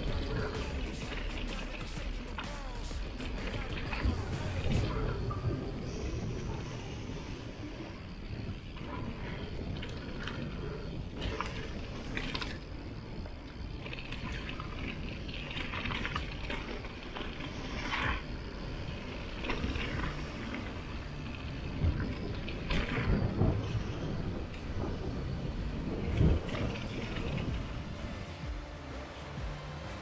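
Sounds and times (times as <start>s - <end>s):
bike rattling over bumps: 0.0s - 30.0s
bike tyres rumbling on dirt: 0.0s - 30.0s.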